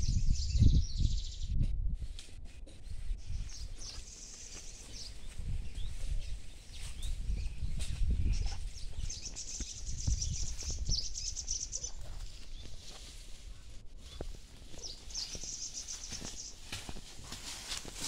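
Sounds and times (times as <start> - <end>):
small bird twittering song: 0.0 - 1.6, 2.6 - 13.0, 14.0 - 16.7
steps on dry leaves: 3.5 - 18.0.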